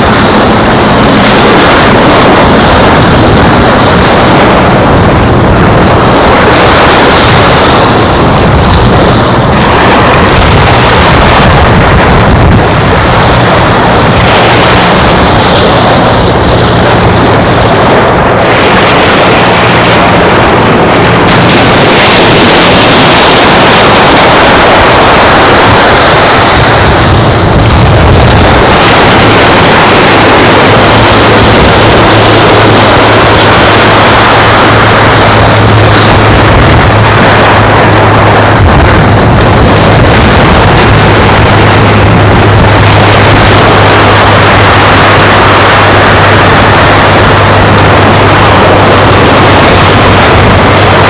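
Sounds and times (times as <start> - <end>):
low engine hum: 0.0 - 51.0
surf hissing: 0.0 - 51.0
wind on microphone: 0.0 - 51.0.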